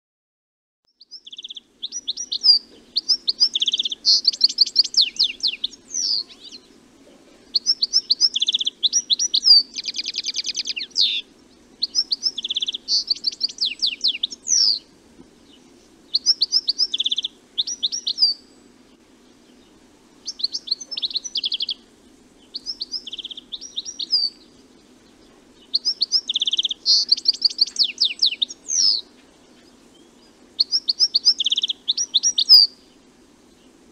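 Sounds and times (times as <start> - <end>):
finch twittering song: 0.9 - 6.8, 7.5 - 33.8
low background hum: 1.0 - 33.9.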